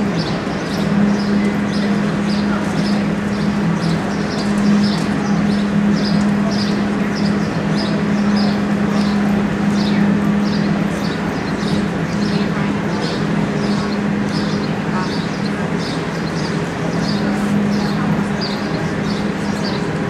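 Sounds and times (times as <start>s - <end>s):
constant low hum: 0.0s - 20.0s
continuous rush of noise: 0.0s - 20.0s.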